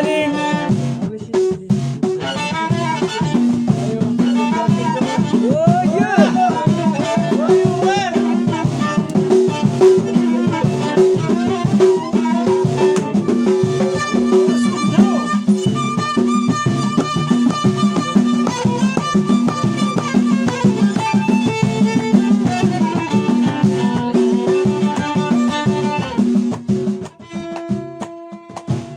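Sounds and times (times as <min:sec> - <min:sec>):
steady percussion rhythm: 0:00.0 - 0:28.9.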